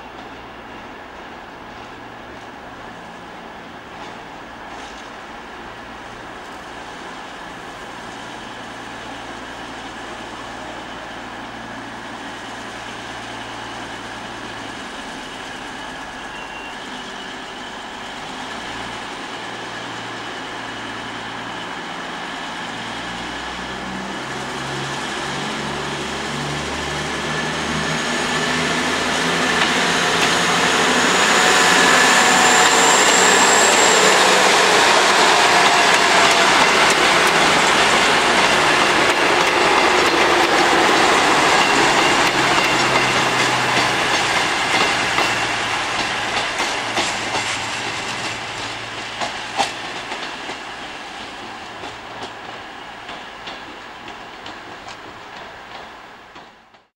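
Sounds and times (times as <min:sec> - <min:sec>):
diesel train passing: 0:00.0 - 0:56.9.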